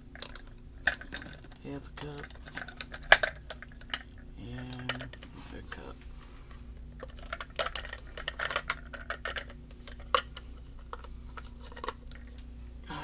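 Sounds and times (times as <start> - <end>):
low hum: 0.0 - 13.0
plastic cups clacking together: 0.1 - 5.9, 7.0 - 12.4.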